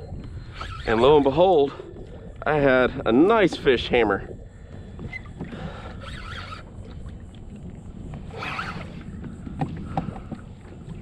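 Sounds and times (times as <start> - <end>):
low wind: 0.0 - 11.0
water around kayak: 0.0 - 11.0.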